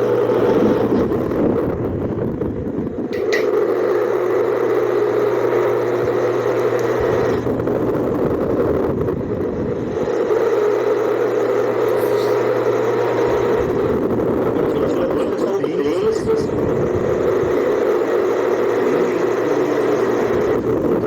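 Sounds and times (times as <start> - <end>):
electric fan whirring: 0.0 - 21.0.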